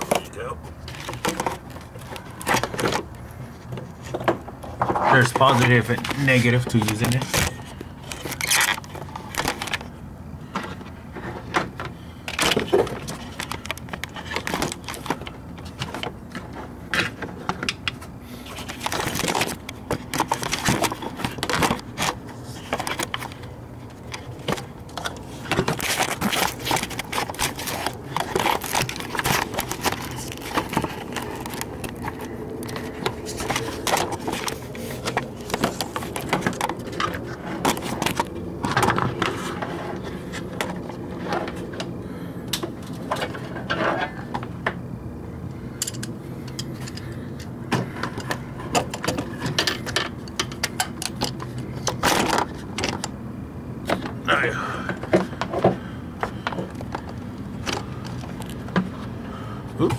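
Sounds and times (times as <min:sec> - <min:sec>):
handling noise: 0:00.0 - 0:59.9.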